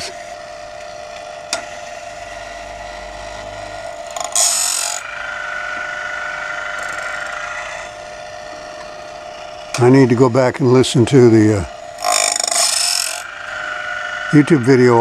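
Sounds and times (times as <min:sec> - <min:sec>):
grinding wheel hiss: 0:00.0 - 0:15.0
high steady whine: 0:00.0 - 0:15.0
sharpener motor hum: 0:00.0 - 0:15.0.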